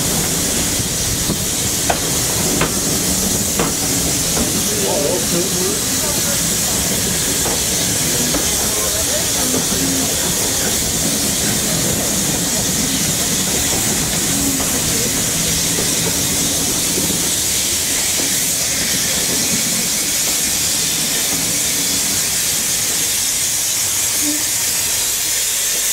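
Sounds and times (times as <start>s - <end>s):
steam locomotive hissing: 0.0s - 25.9s.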